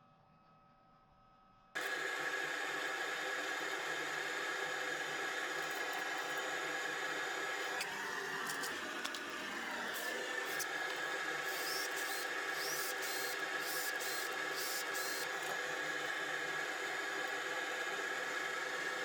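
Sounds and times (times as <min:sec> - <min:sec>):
shop vacuum whining: 0:01.8 - 0:19.0.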